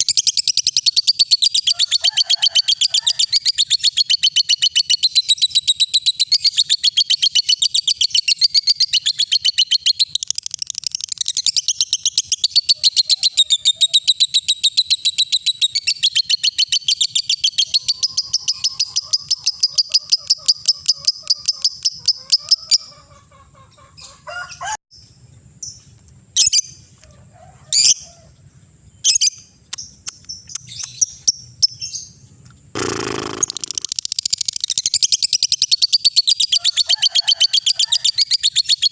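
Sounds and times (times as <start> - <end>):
bird chirps: 0.0 - 2.0, 2.7 - 24.2, 25.0 - 27.0, 27.8 - 38.9
bird chattering trill: 0.0 - 24.2, 29.0 - 38.9.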